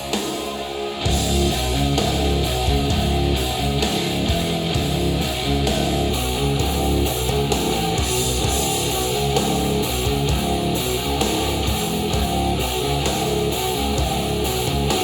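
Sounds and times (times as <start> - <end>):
strummed guitar over a beat: 0.0 - 15.0.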